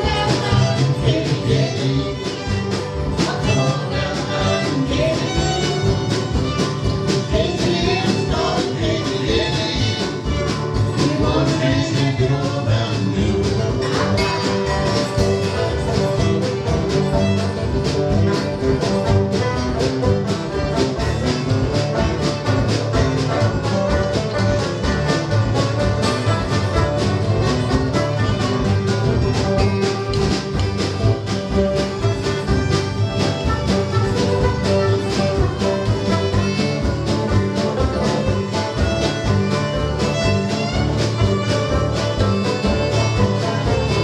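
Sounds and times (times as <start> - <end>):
acoustic bluegrass band playing: 0.0 - 44.0.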